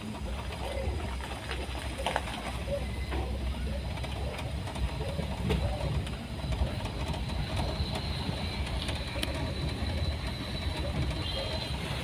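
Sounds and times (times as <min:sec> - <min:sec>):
engine and tyre rumble: 0:00.0 - 0:12.0
sharp clicks and rattles: 0:00.0 - 0:12.0.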